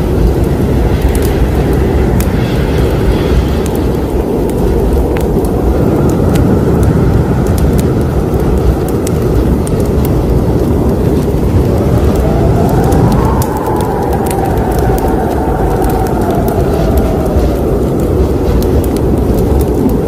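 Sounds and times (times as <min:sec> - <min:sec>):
fire crackles and pops: 0:00.0 - 0:20.0
fire low roar: 0:00.0 - 0:20.0.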